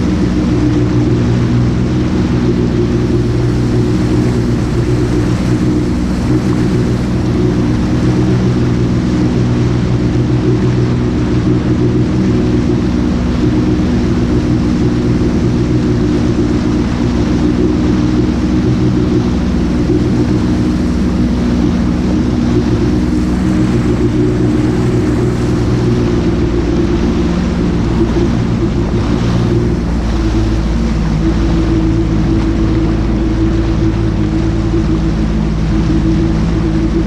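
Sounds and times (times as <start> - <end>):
jet ski engine running: 0.0 - 37.0
water rushing: 0.0 - 37.0
wind: 0.0 - 37.0.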